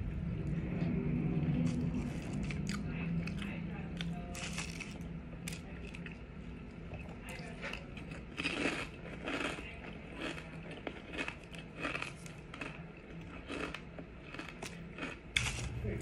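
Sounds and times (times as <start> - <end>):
low steady hum: 0.0 - 16.0
chewing crunchy chips: 1.4 - 15.8.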